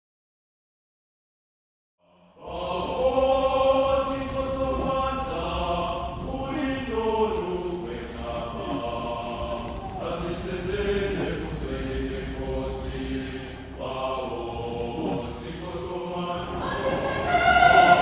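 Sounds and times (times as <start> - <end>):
choir singing slow chant: 2.0 - 18.0.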